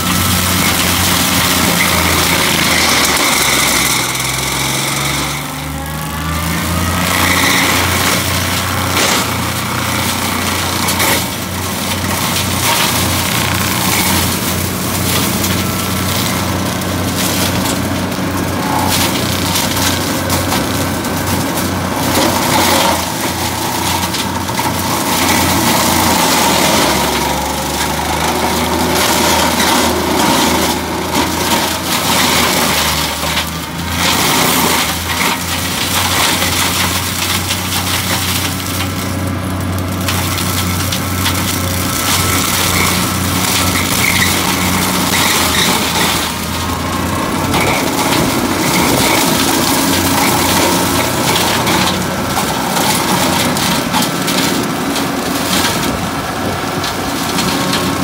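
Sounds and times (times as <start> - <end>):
tractor engine drone: 0.0 - 58.0
wood crunching in mulcher: 0.0 - 58.0.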